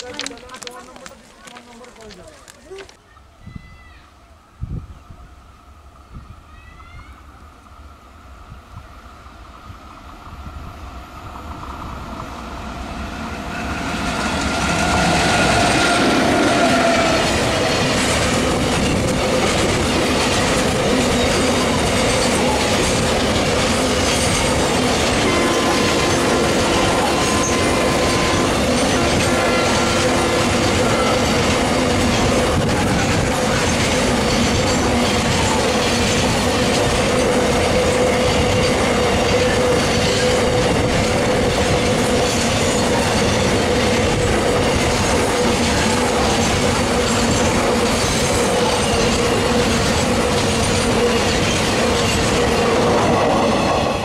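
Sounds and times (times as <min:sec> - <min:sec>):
train wheels clickety-clack: 0:00.0 - 0:03.0, 0:13.8 - 0:54.0
electric locomotive passing: 0:04.6 - 0:54.0.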